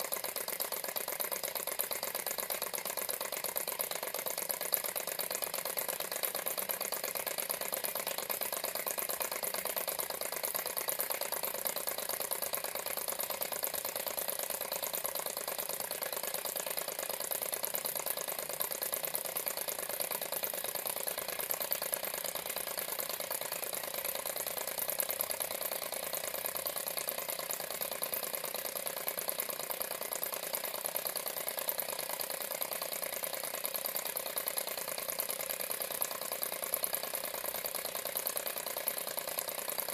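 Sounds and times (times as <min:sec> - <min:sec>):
model engine clicking rattle: 0:00.0 - 0:39.9.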